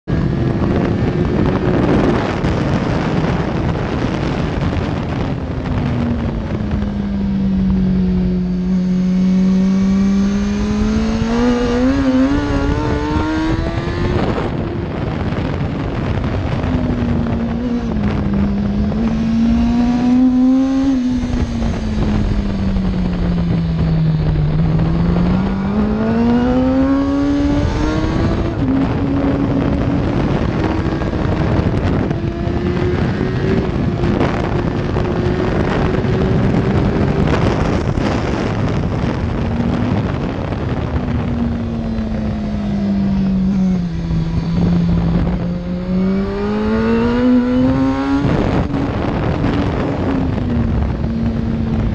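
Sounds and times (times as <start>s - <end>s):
motorcycle engine running: 0.0s - 51.9s
wind buffeting microphone: 0.1s - 51.9s.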